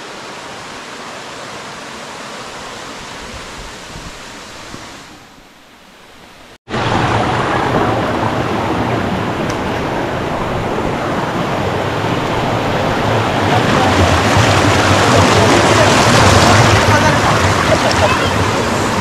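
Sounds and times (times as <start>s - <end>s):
stream rushing over rocks: 0.0s - 5.4s, 6.6s - 19.0s.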